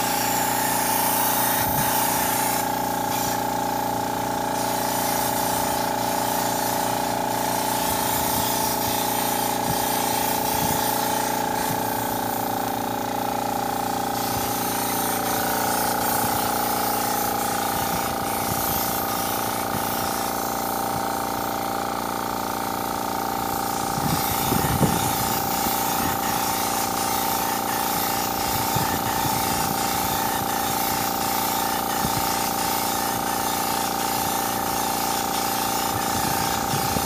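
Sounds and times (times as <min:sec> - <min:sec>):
air compressor running: 0:00.0 - 0:37.0
spray gun hissing: 0:00.0 - 0:37.0.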